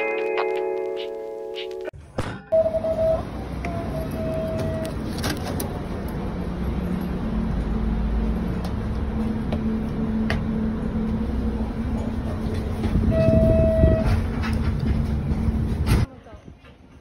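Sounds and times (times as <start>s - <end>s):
bus engine rumbling: 0.2s - 16.4s.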